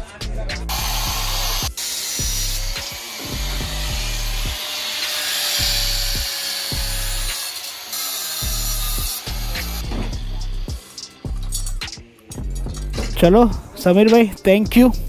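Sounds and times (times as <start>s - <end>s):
background music with steady beat: 0.0s - 15.0s
angle grinder grinding metal: 0.7s - 12.8s.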